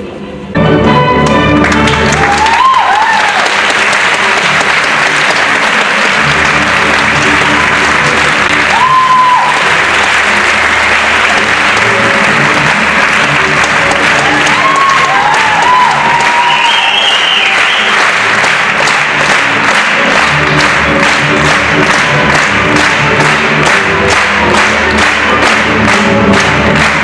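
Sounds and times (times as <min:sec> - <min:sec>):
ballet music: 0:00.0 - 0:27.0
audience applauding: 0:01.2 - 0:27.0.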